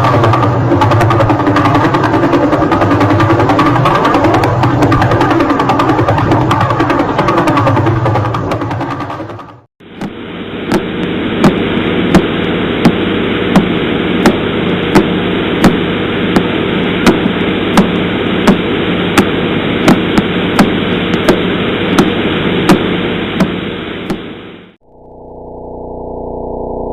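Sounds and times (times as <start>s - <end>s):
static hiss: 0.0s - 24.8s.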